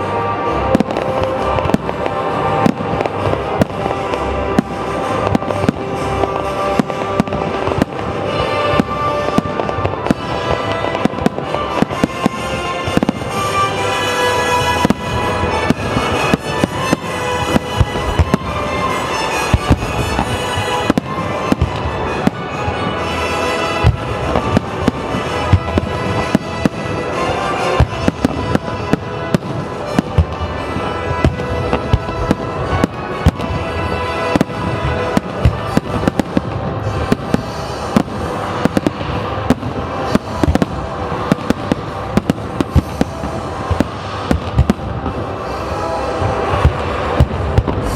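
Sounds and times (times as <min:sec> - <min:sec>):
fireworks bursting and crackling: 0:00.0 - 0:47.9
music: 0:00.0 - 0:47.9.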